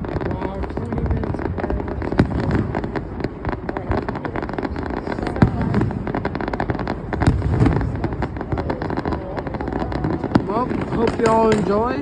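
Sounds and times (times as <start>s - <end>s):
fireworks bursts and crackling: 0.0s - 12.0s
loud firework bangs: 0.0s - 12.0s.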